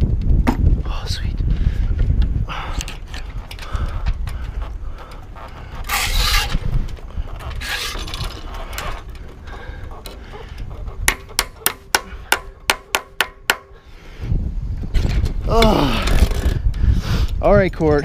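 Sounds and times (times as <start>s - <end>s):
wind buffeting microphone: 0.0s - 12.8s, 13.4s - 18.0s.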